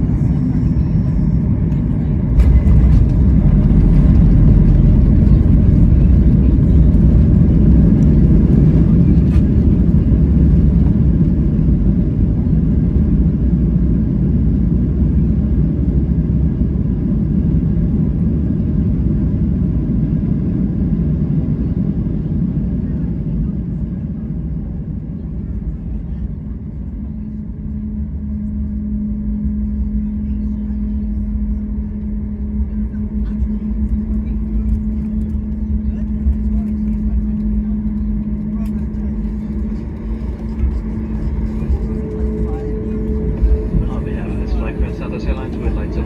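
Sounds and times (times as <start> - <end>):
airplane cabin rumble: 0.0 - 46.0.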